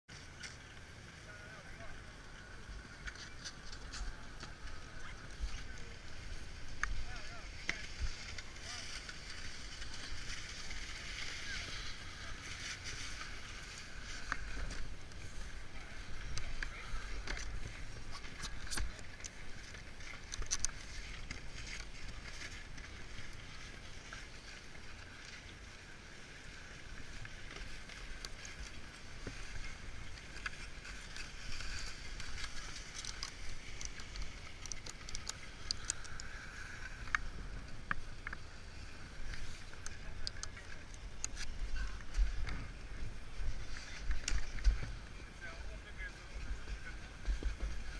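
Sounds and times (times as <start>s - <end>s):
background hiss and low rumble: 0.1s - 47.9s.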